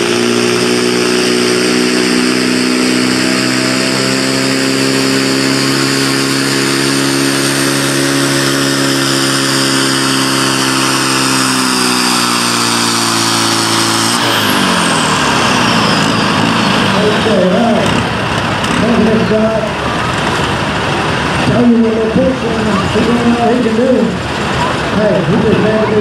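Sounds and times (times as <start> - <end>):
tractor engine at high revs: 0.0 - 26.0.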